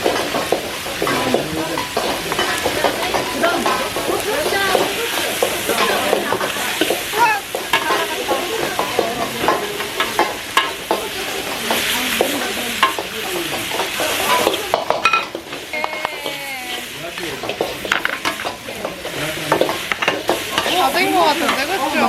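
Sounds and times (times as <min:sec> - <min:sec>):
noodles sizzling in a pan: 0:00.0 - 0:22.0.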